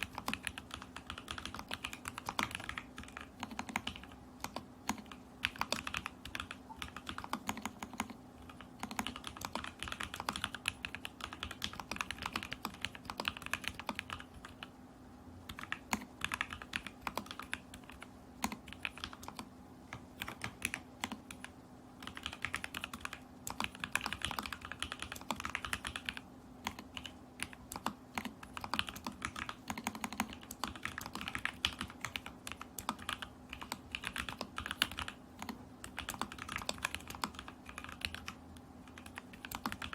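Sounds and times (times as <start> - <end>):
mechanical keyboard typing: 0.0 - 14.7, 15.5 - 39.9
faint steady hum: 0.0 - 39.9.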